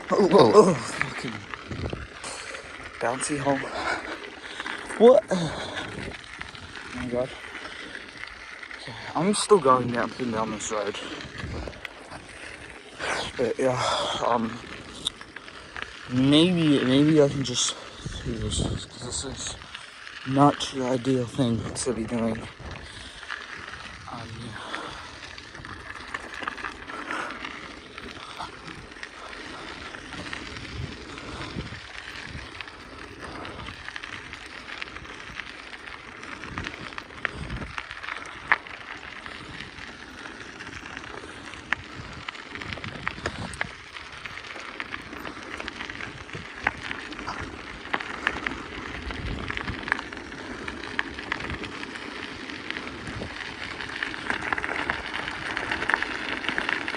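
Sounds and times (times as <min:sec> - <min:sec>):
bike clicks and rattles: 0:00.0 - 0:56.9
bike tyres rolling on road: 0:00.0 - 0:56.9.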